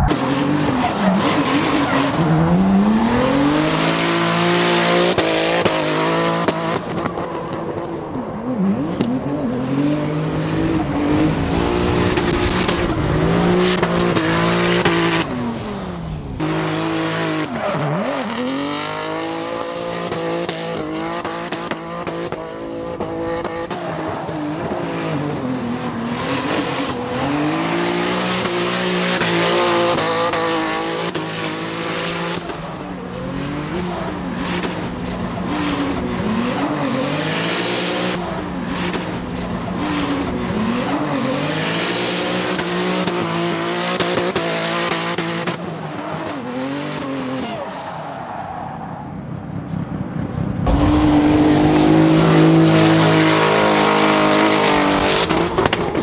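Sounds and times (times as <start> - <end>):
car engine revving: 0.0 - 47.5, 48.2 - 56.0.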